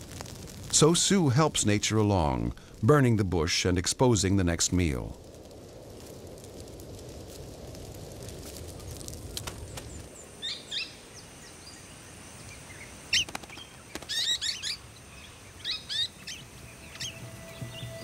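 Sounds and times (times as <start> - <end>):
grass fire crackling: 0.0 - 18.0.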